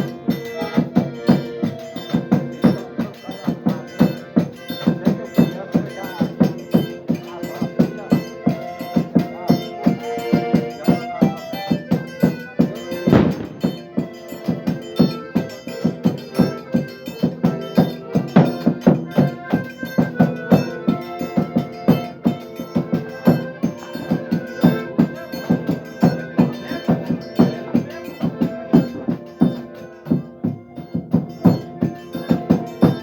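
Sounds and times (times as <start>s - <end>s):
accordion music with drum beat: 0.0s - 33.0s.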